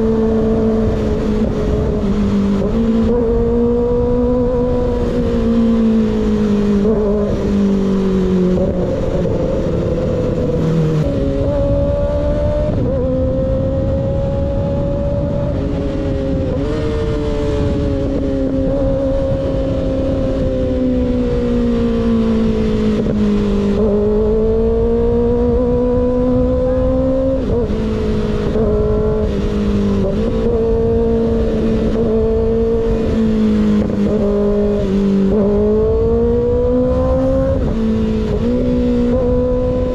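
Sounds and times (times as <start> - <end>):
motorcycle engine at cruising revs: 0.0 - 39.9.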